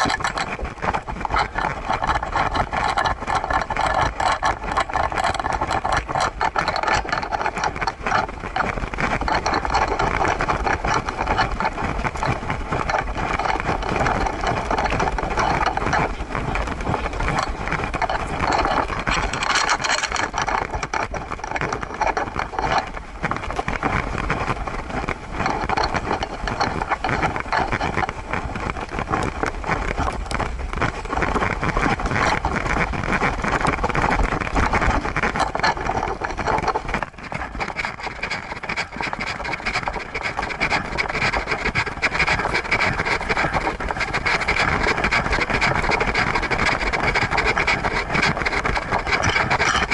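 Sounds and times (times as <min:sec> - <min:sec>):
wind on microphone: 0:00.0 - 0:49.9.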